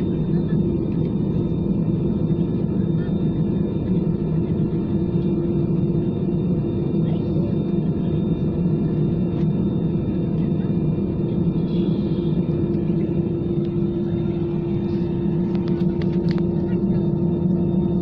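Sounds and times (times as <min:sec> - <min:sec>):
airliner cabin drone: 0:00.0 - 0:18.0
steady humming tones: 0:00.0 - 0:18.0.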